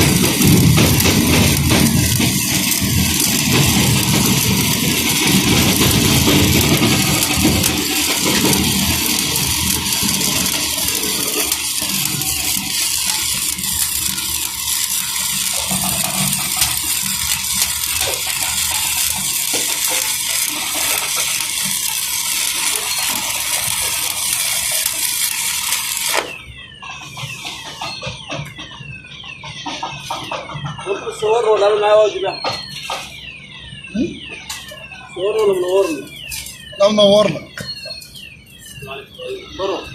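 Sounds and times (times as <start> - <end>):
welding arc crackling: 0.0 - 28.6, 34.0 - 39.9.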